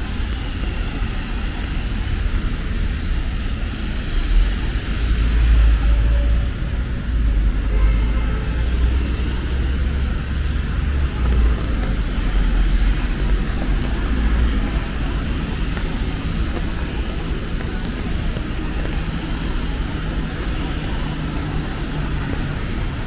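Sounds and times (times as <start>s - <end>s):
passing traffic rumble: 0.0s - 23.0s
rain hiss: 0.0s - 23.0s.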